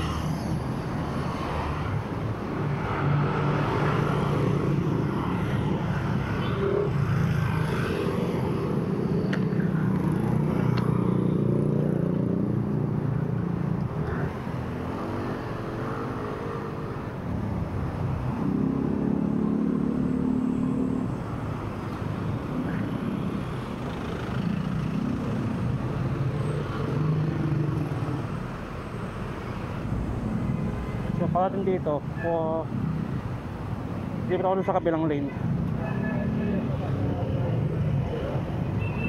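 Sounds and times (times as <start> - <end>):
vehicles passing by: 0.0 - 39.0.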